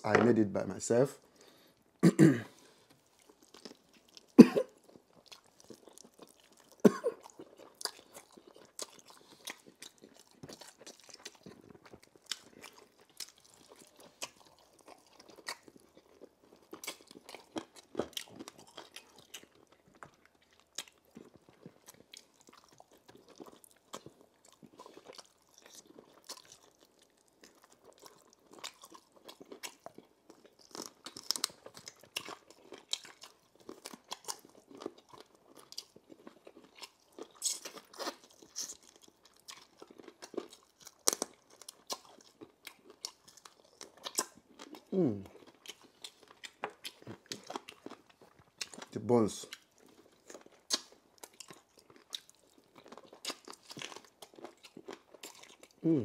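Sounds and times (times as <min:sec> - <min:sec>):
person crunching chicken: 0:02.5 - 0:56.0.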